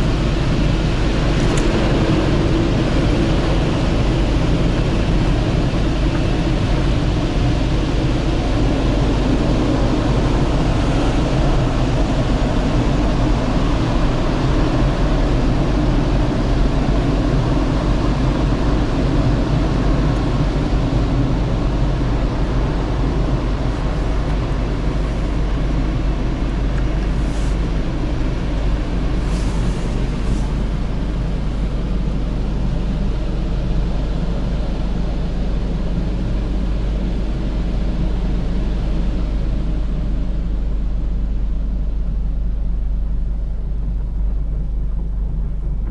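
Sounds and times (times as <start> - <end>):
car wash machinery running: 0.0 - 45.9
deep rumble: 0.0 - 45.9.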